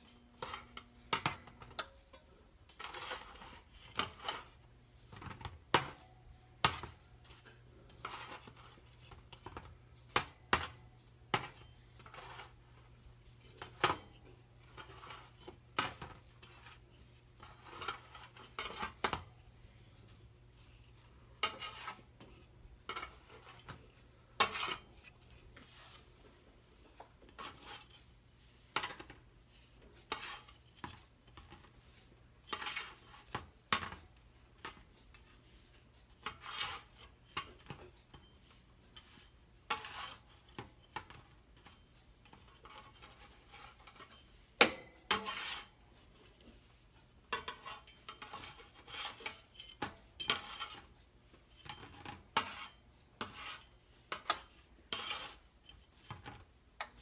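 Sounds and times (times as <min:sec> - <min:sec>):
spatula scraping baking sheet: 0:00.0 - 0:56.5.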